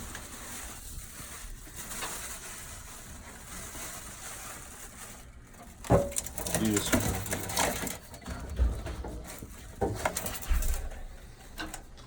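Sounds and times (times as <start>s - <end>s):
rustling and scraping of hose: 0.0s - 12.0s.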